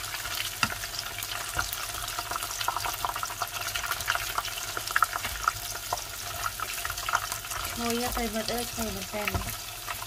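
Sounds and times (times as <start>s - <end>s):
fish balls sizzling in oil: 0.0s - 10.0s.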